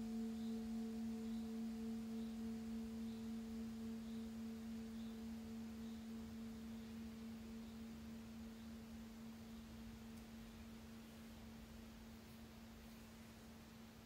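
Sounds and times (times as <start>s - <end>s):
low ringing tone: 0.0s - 11.7s.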